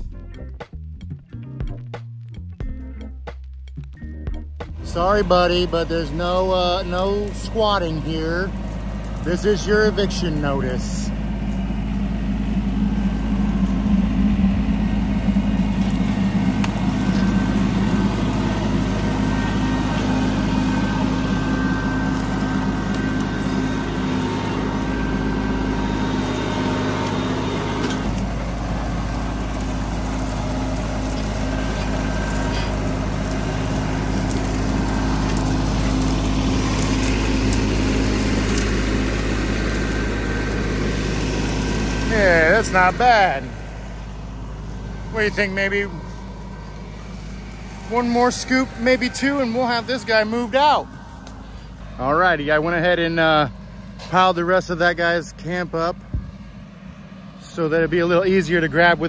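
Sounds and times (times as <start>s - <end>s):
tractor engine running: 1.6s - 59.0s.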